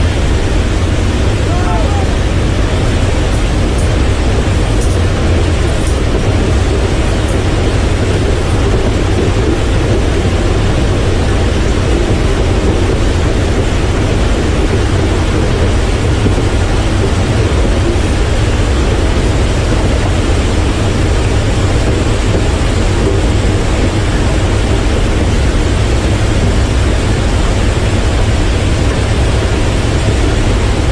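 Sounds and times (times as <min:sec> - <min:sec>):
jet engines roaring: 0:00.0 - 0:30.9.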